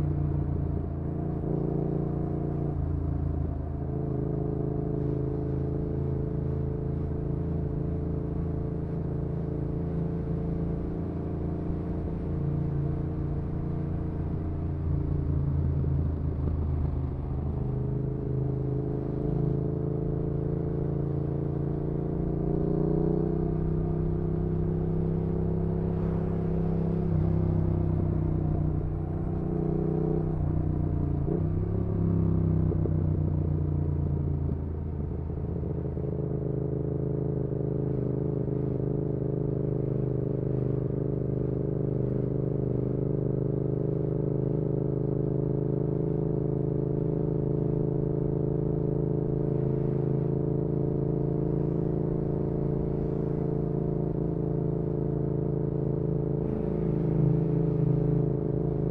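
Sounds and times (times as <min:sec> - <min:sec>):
motorcycle engine while riding: 0:00.0 - 0:58.9.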